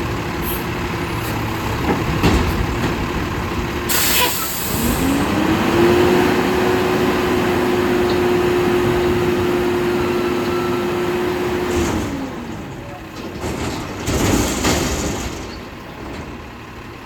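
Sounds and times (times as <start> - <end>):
garbage truck engine running: 0.0 - 17.0.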